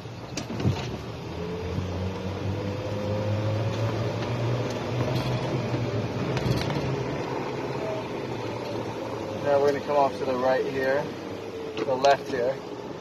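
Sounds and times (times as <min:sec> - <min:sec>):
golf cart motor humming and whining: 0:00.0 - 0:13.0.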